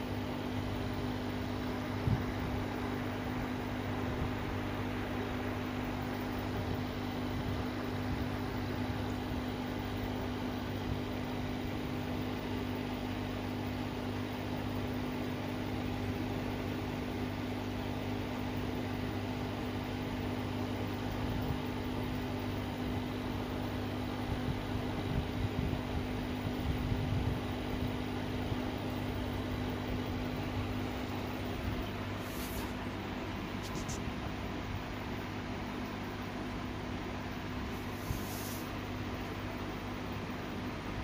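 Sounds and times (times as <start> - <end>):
aquarium air pump humming: 0.0 - 41.0.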